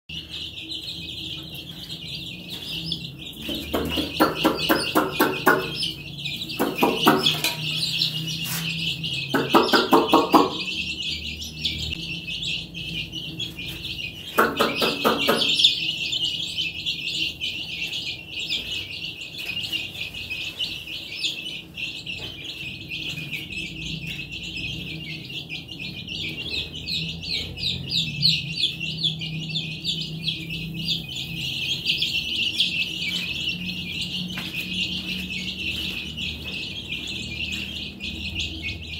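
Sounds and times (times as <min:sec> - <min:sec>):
baby chicks peeping: 0:00.1 - 0:38.9.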